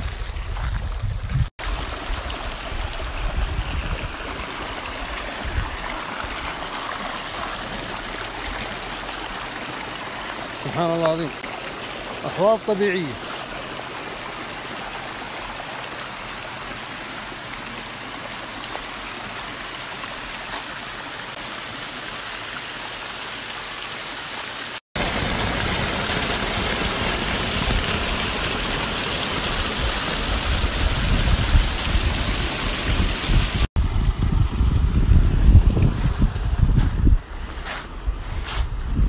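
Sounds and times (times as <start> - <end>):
waterfall splashing into pool: 0.0 - 37.0
stream rushing over rock: 0.0 - 38.7.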